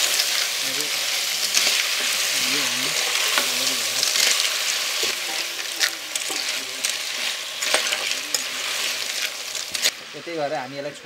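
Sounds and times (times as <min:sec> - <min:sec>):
spatula stirring: 0:00.0 - 0:10.1
snails sizzling in hot oil: 0:00.0 - 0:11.0.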